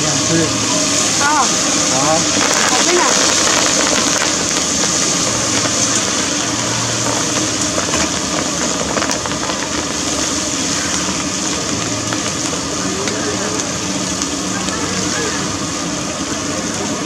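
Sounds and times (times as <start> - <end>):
low rumble: 0.0 - 17.0
oil sizzling in a wok: 0.0 - 17.0.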